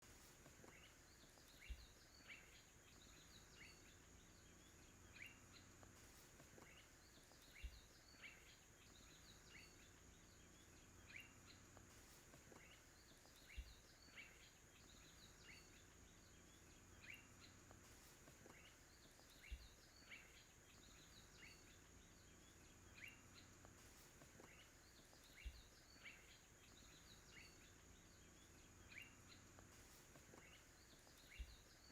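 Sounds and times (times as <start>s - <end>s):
faint bird chirps: 0.0s - 31.9s.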